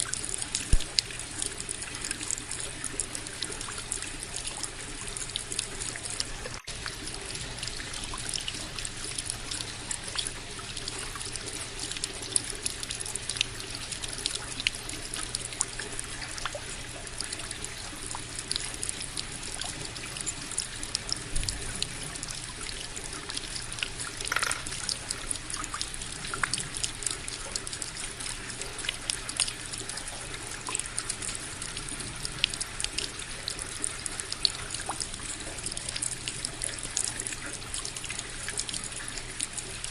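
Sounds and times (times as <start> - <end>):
fountain water trickling and splashing: 0.0 - 39.9.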